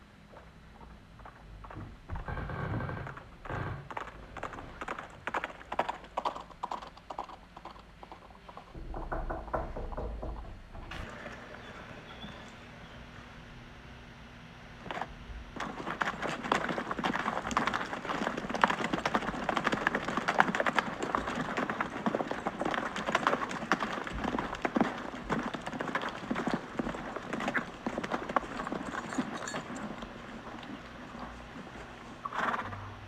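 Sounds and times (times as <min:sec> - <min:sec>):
horse hooves striking ground: 0:03.0 - 0:10.1, 0:11.0 - 0:13.1, 0:14.8 - 0:33.0.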